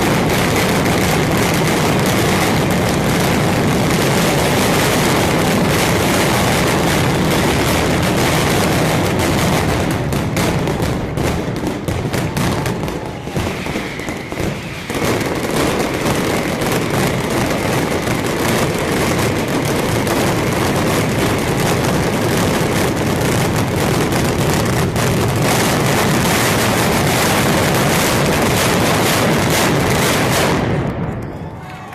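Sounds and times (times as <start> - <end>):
firecrackers banging rapidly: 0.0 - 31.2.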